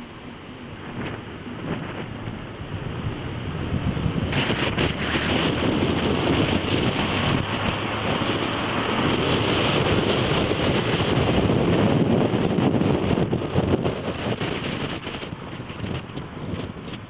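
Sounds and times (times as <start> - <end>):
road noise: 0.0 - 17.0
vehicle engine: 0.0 - 17.0
wind rushing over microphone: 0.0 - 17.0.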